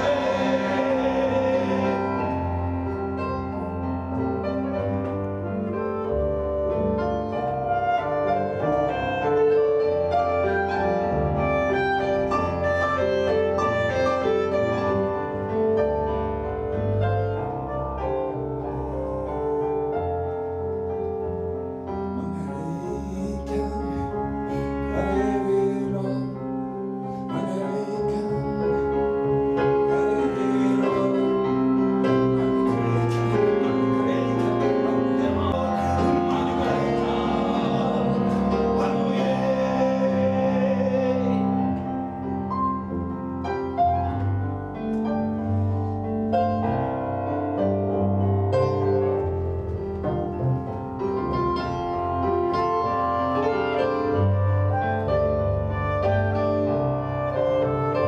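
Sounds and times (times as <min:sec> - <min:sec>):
piano background music: 0:00.0 - 0:58.0.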